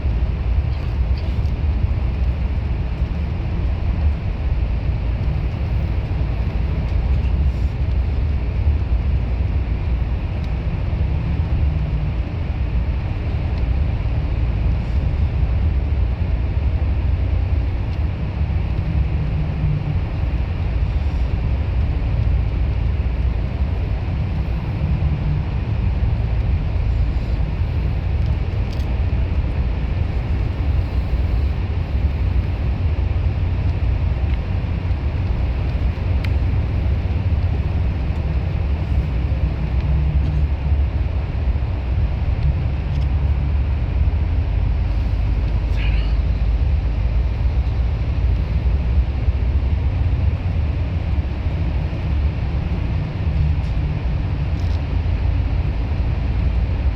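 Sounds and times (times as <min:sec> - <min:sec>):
bus engine rumble and road noise: 0:00.0 - 0:56.9.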